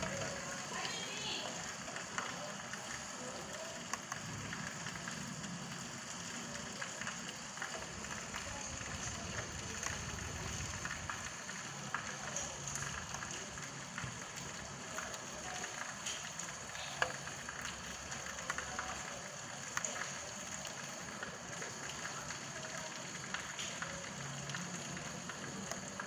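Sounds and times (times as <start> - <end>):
sharp drips: 0.0 - 26.0
steady rain falling: 0.0 - 26.0.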